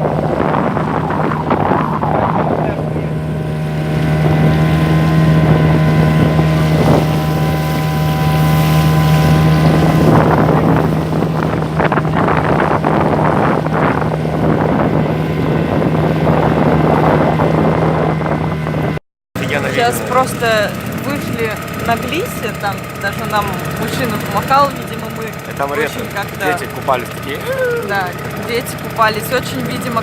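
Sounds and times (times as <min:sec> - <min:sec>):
outboard motor running: 0:00.0 - 0:30.0
water rushing past hull: 0:00.0 - 0:30.0
wind buffeting microphone: 0:00.0 - 0:30.0.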